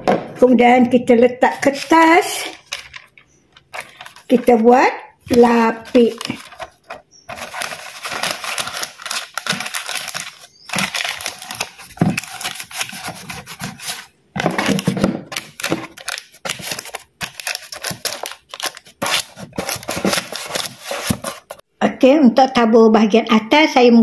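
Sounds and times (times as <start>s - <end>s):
baking paper crinkling: 1.4s - 21.6s.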